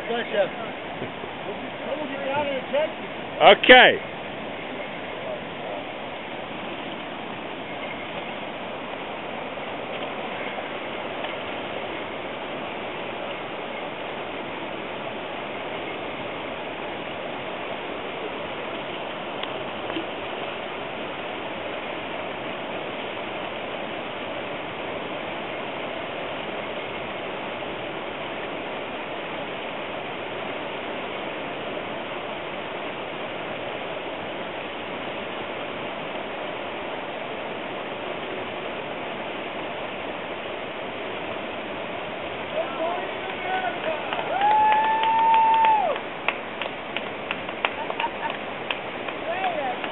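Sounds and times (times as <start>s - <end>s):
river rapids rushing over rocks: 0.0s - 49.9s.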